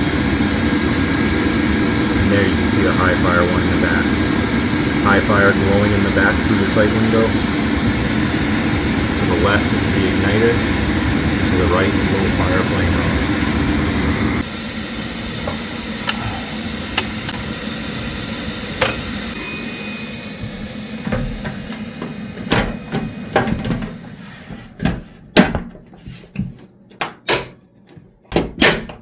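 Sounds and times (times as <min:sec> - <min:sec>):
water heater burner and fan: 0:00.0 - 0:29.0.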